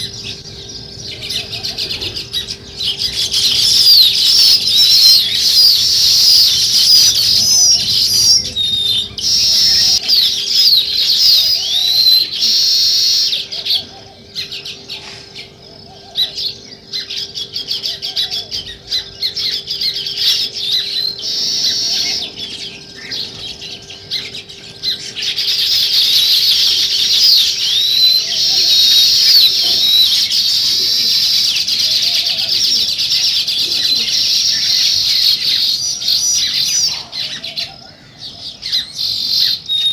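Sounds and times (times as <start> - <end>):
faint steady hum: 0.0 - 39.9
sparrows chirping: 0.0 - 39.9.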